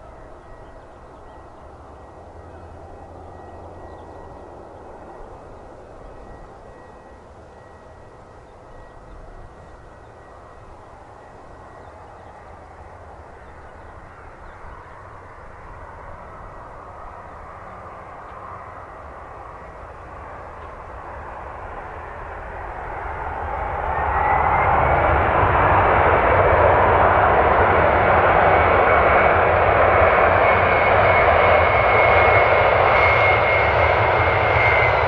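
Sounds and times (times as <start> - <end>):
jet engines rising whine: 0.0 - 35.0
jet engines whooshing hum: 0.0 - 35.0.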